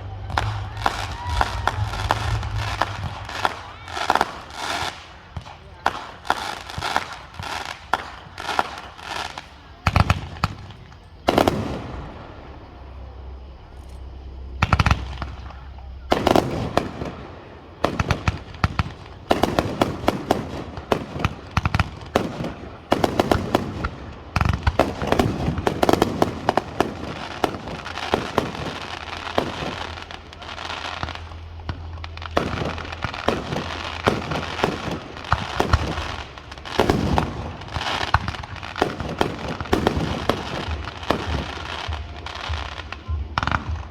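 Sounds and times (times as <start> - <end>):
fireworks bangs: 0.0 - 43.9
fireworks popping and crackling: 0.0 - 43.9.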